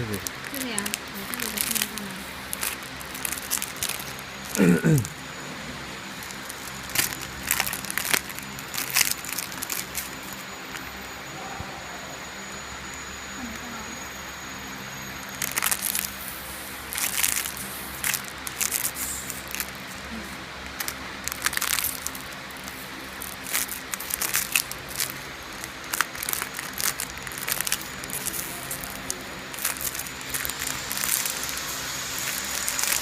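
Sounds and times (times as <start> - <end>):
crackling handling noise: 0.0 - 11.0, 15.3 - 33.0
steady low hum: 0.0 - 33.0.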